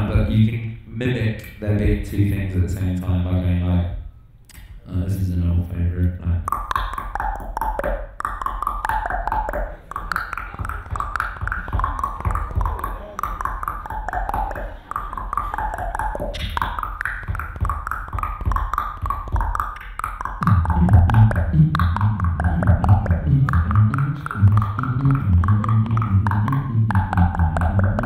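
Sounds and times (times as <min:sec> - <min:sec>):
beatboxing through microphone: 0:00.0 - 0:28.0.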